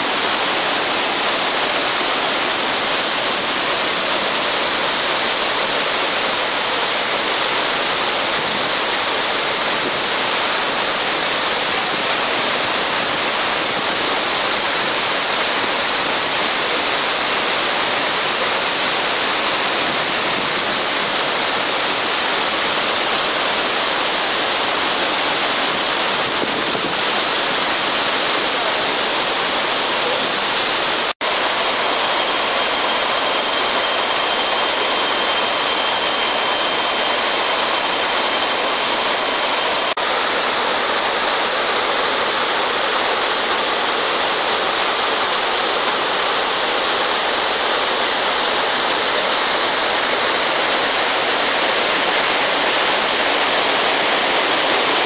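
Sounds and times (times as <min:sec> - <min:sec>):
waterfall rushing onto rocks: 0:00.0 - 0:55.0.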